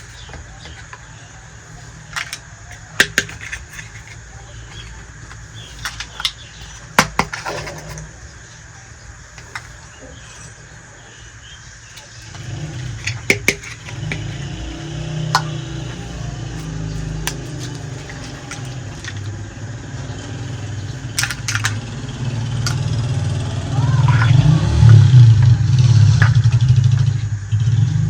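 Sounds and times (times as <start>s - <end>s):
motor engine droning: 0.0s - 28.0s.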